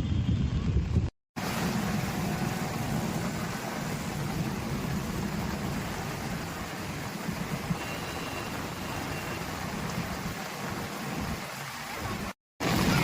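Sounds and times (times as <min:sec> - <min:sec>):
heavy rain and floodwater rushing: 0:01.4 - 0:13.0.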